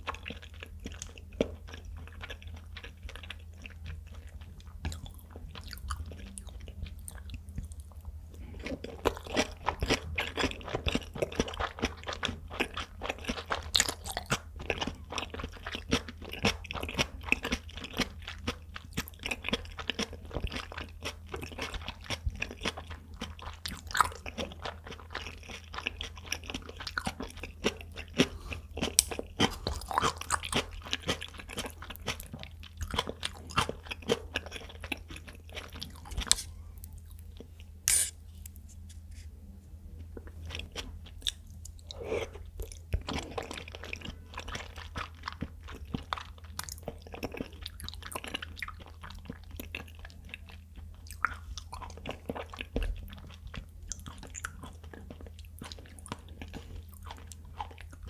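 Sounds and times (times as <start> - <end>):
chewing with clicks and smacks: 0.0 - 37.7, 40.0 - 58.0.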